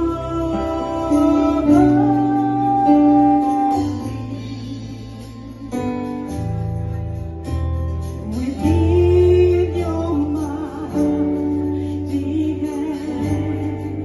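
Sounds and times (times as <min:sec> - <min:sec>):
woman singing into a microphone: 0:00.0 - 0:06.4, 0:08.2 - 0:14.0.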